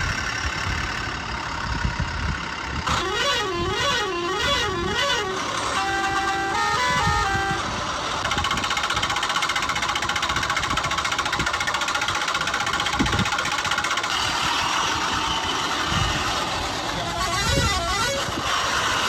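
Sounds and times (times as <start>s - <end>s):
engine running with rattle: 0.0s - 19.0s.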